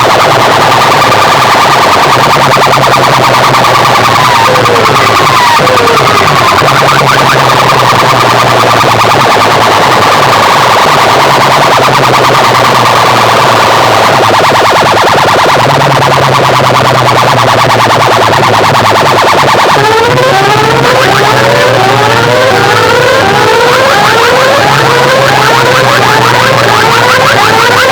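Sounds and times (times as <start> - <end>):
bass drone: 0.0 - 27.9
fast pulsing buzz: 0.0 - 27.9
rising siren sweeps: 0.0 - 27.9.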